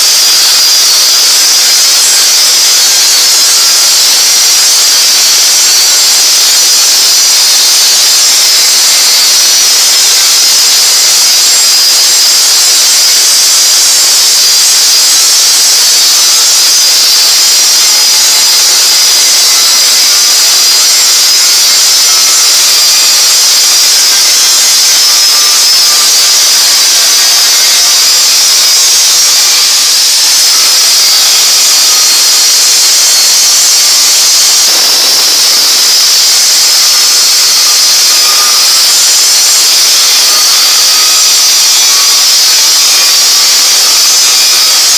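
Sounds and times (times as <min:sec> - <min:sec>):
cutting torch hissing: 0:00.0 - 0:44.9.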